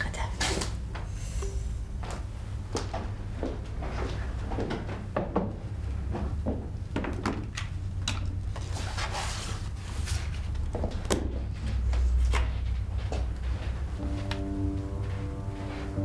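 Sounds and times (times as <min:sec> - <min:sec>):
steady low hum: 0:00.0 - 0:07.0, 0:07.7 - 0:16.0.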